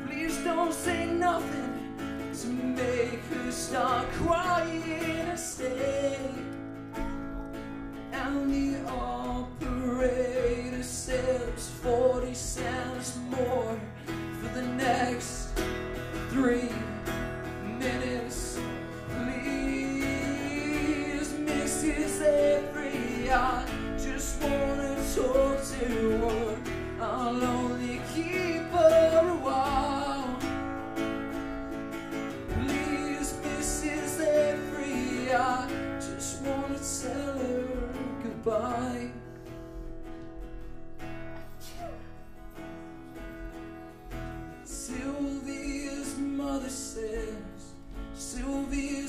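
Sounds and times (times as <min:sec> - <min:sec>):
man singing: 0:00.0 - 0:39.8, 0:44.5 - 0:49.0
strummed acoustic guitar: 0:00.0 - 0:49.0.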